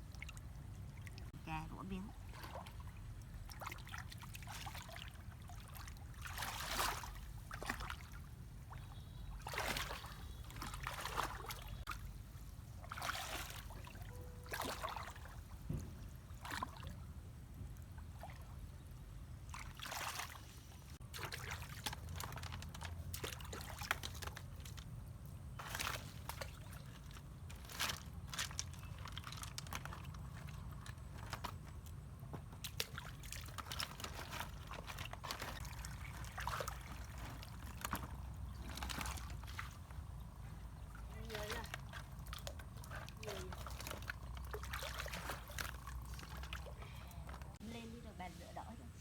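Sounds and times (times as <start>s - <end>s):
water splashing and sloshing: 0.0s - 49.0s.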